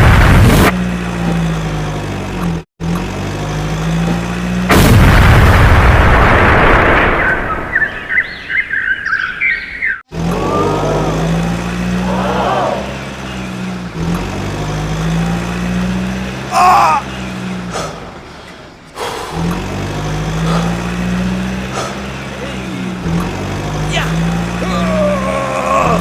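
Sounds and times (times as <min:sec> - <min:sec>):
vehicle engine drone: 0:00.0 - 0:06.6, 0:10.1 - 0:26.0.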